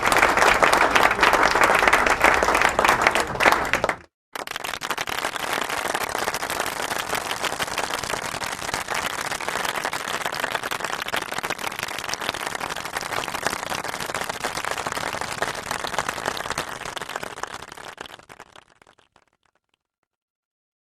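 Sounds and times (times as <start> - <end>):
crowd applause: 0.0 - 19.2.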